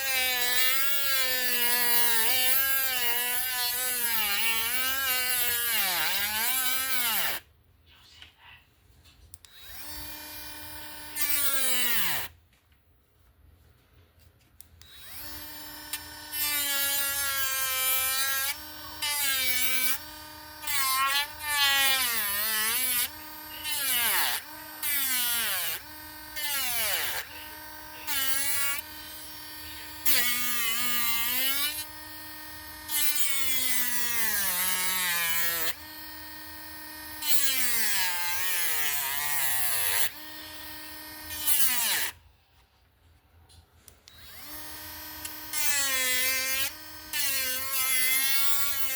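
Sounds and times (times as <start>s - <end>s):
rotary tool cutting wood: 0.0s - 7.5s, 9.4s - 12.4s, 14.8s - 42.2s, 44.1s - 48.9s.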